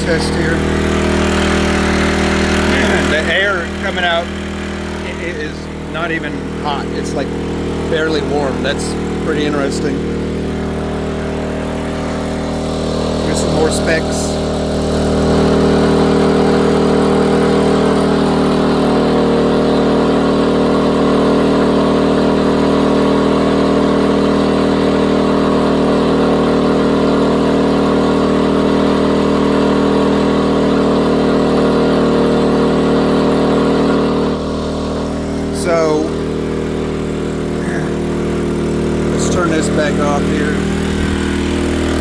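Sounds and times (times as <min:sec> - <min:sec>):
generator engine hum: 0:00.0 - 0:42.0.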